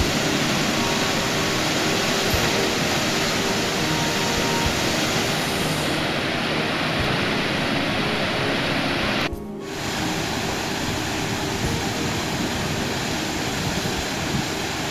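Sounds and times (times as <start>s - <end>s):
rush of falling water: 0.0s - 14.9s.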